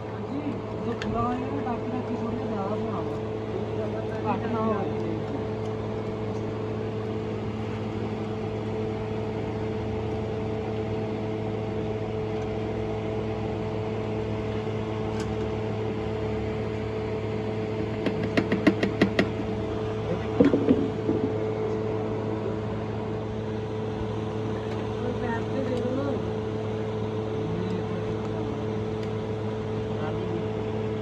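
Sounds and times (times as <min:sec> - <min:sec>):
machine humming: 0:00.0 - 0:31.0.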